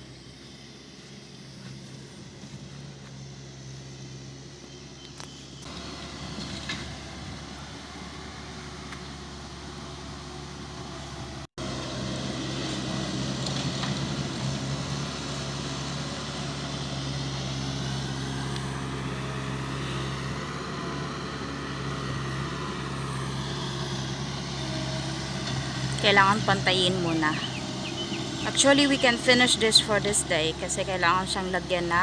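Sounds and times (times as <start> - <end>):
skid steer engine running: 0.0 - 32.0.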